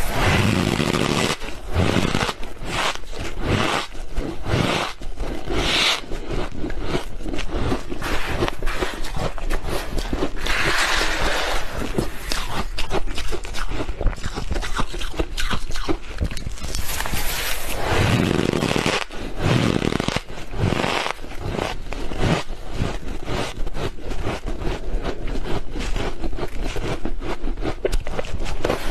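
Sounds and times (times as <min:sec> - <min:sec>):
frost being chewed: 0:00.0 - 0:28.9.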